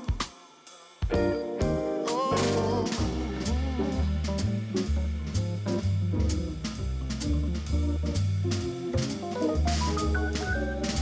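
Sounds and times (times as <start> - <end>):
drum kit beat: 0.0 - 11.0
guitar: 1.0 - 11.0
bass line: 1.1 - 11.0.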